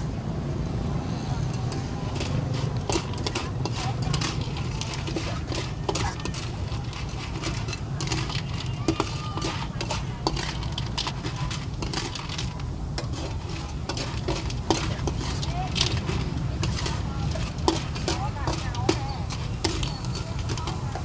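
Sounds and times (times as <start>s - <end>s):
metal spatula scraping a wok: 1.1s - 21.0s
food sizzling: 1.4s - 21.0s.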